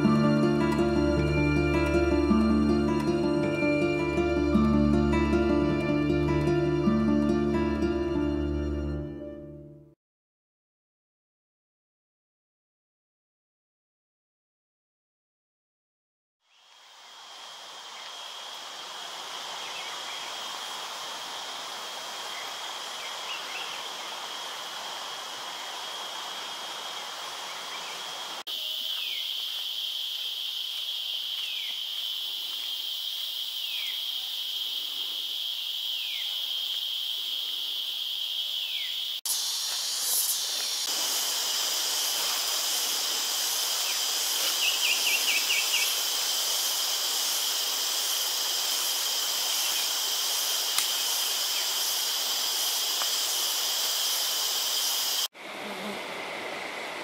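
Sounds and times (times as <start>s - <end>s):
insects buzzing drone: 0.0s - 9.0s, 16.5s - 57.0s.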